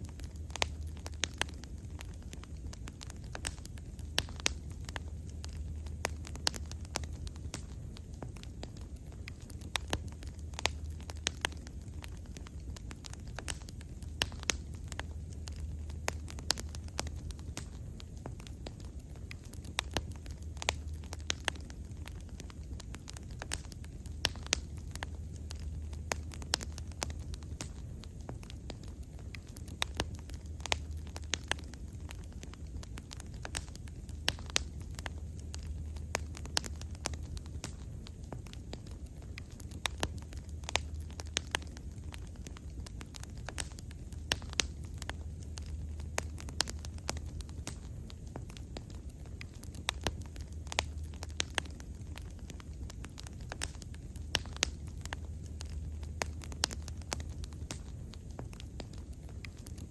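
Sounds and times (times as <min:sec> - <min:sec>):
bonfire crackling and popping: 0:00.0 - 0:59.9
low rumble of flames: 0:00.0 - 0:59.9.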